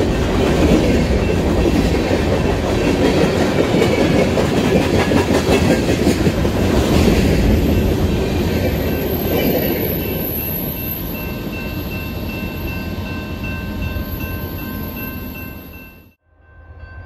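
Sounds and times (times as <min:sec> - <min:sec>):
train cars rattling over rails: 0:00.0 - 0:14.6.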